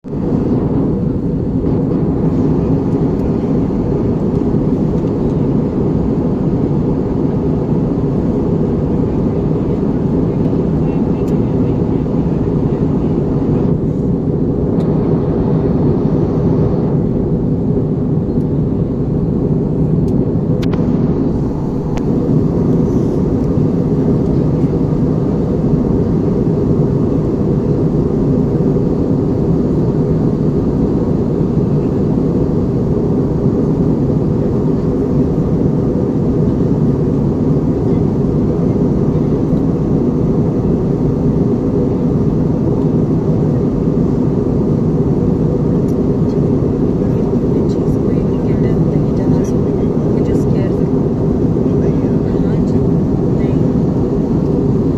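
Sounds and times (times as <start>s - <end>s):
aircraft engines droning: 0.0s - 54.9s.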